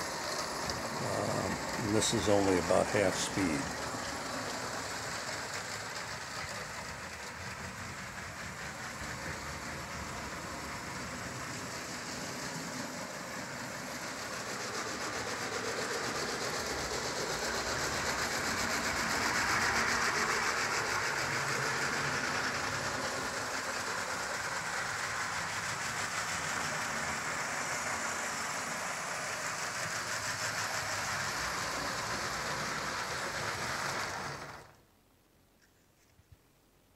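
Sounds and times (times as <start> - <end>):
toy train motors whirring rattle: 0.0 - 34.8.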